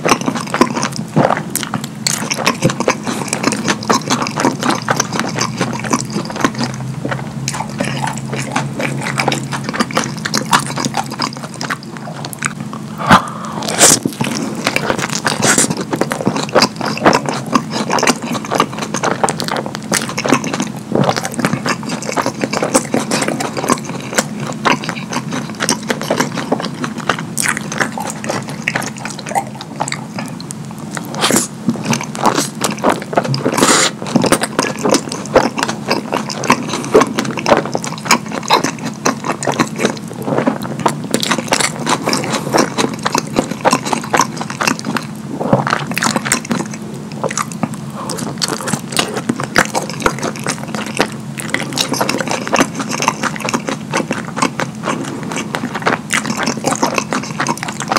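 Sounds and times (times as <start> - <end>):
faint steady hum: 0.0 - 57.9
wet chewing and lip-smacking: 0.0 - 57.9.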